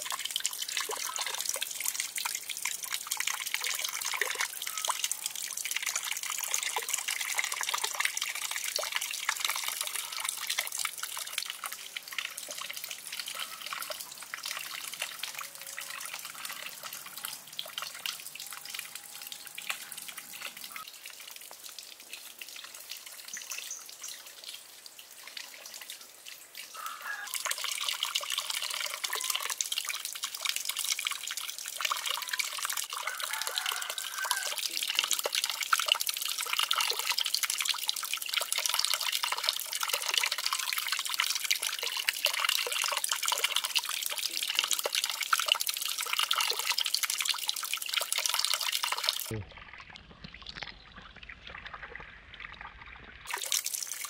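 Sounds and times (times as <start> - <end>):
water trickling into a pond: 0.0 - 54.0.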